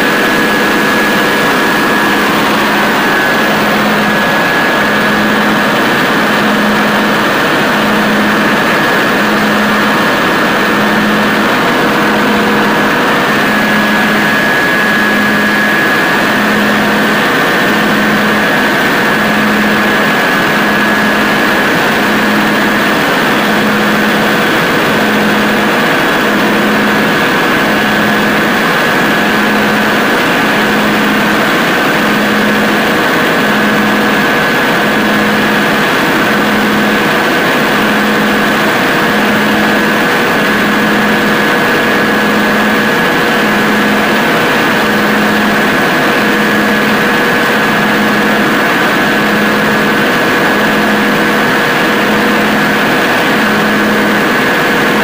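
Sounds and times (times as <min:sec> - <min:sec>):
diesel generator running: 0:00.0 - 0:55.0
high whine: 0:00.0 - 0:55.0.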